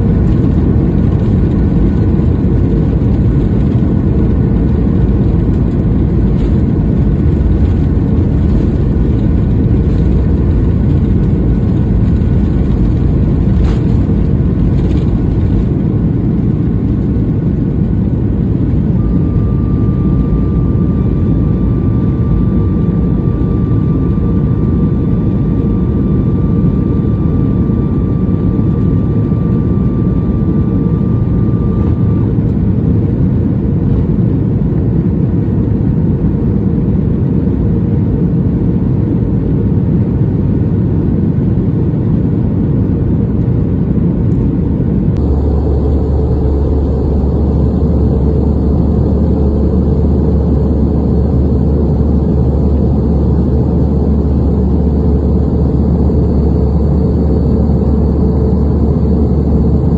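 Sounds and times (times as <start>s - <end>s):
airplane cabin engine noise: 0.0s - 59.9s
deeper hum: 0.0s - 59.9s
faint steady whine: 0.0s - 59.9s.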